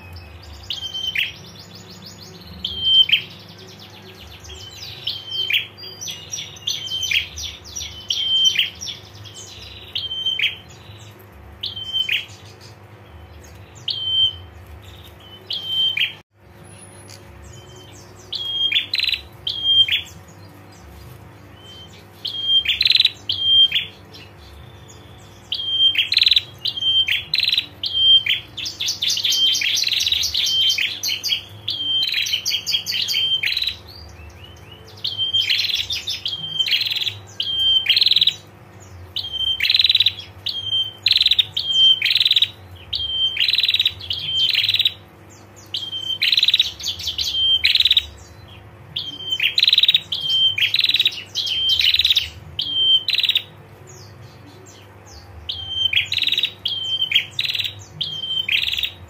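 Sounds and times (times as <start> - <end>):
bird chirps with slurred notes: 0.0 - 59.0.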